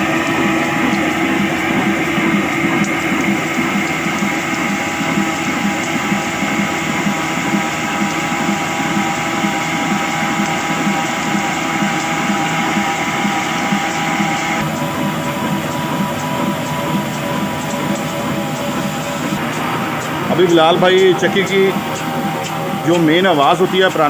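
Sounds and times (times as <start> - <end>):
diesel engine thumping: 0.0 - 24.0.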